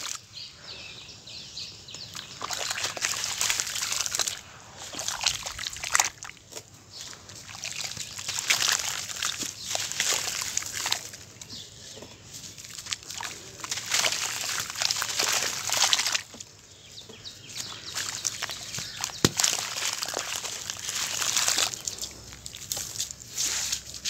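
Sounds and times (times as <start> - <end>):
water sloshing and splashing: 0.0 - 0.2, 2.1 - 11.5, 12.3 - 16.6, 17.4 - 24.0
gritty crunching of wet paste: 1.9 - 24.0.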